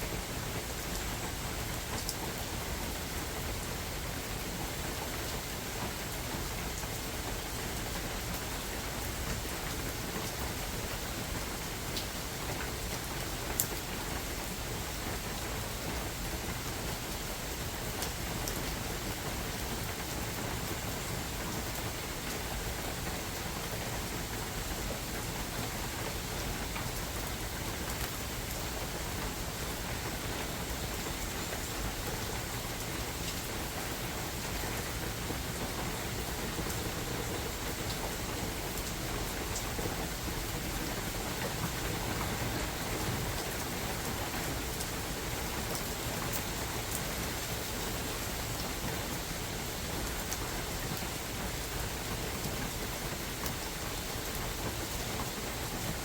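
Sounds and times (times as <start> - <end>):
rain falling in forest: 0.0 - 56.0.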